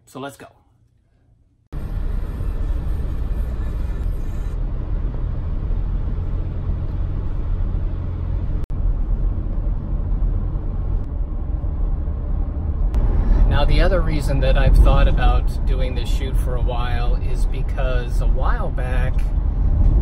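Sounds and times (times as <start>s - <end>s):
car engine and road noise: 1.7s - 20.0s.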